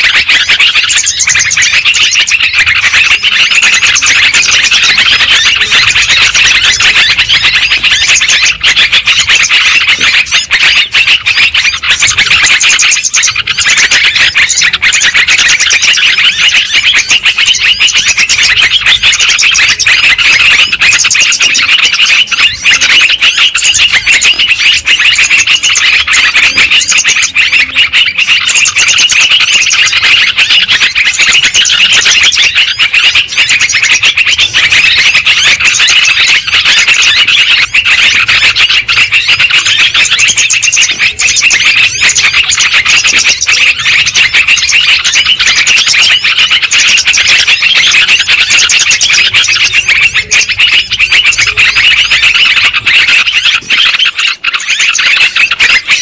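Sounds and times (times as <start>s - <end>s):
chorus of birds chirping: 0.0s - 56.0s.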